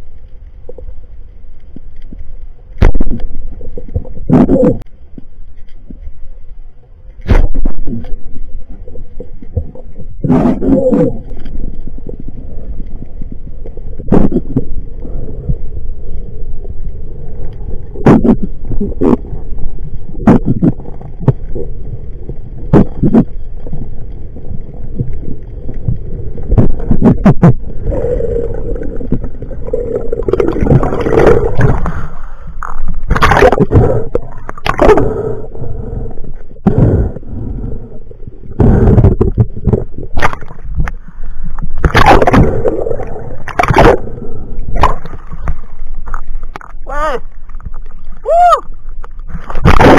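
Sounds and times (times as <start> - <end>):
underwater water rumble: 0.0 - 49.9.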